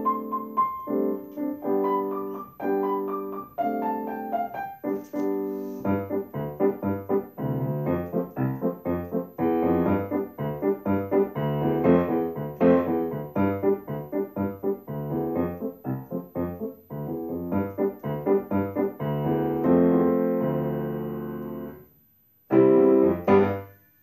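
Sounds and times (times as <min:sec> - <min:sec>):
solo piano chords: 0:00.0 - 0:21.9, 0:22.5 - 0:24.0.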